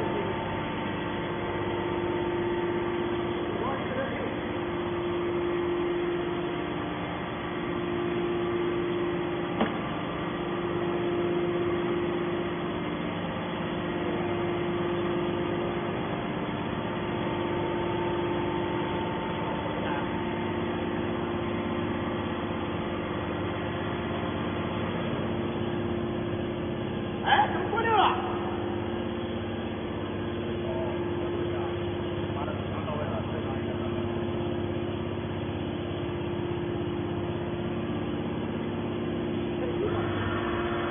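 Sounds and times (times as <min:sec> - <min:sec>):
motor and pump humming: 0:00.0 - 0:40.9.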